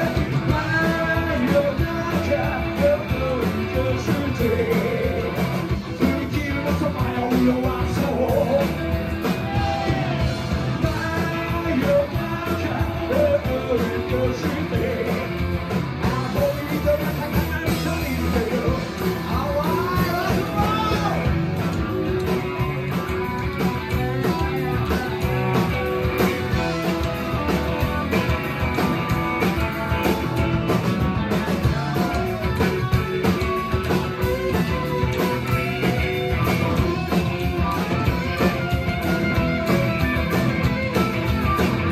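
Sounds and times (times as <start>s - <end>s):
drums: 0.0s - 41.9s
electric guitars: 0.0s - 41.9s
upright bass: 0.0s - 41.9s.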